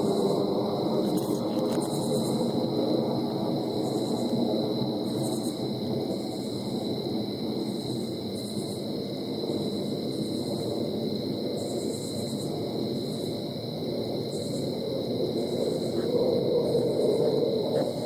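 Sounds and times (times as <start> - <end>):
high-pitched insect drone: 0.0 - 18.0
insect chirping: 0.0 - 18.0
jet aircraft rumble overhead: 0.0 - 18.0.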